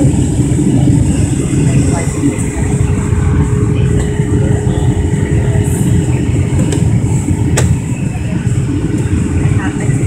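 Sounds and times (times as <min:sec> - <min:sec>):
jet engine and airflow rumble: 0:00.0 - 0:10.0.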